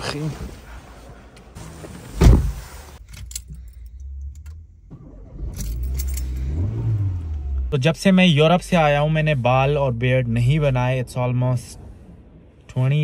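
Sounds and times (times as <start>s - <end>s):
car engine starting: 0.0s - 13.0s.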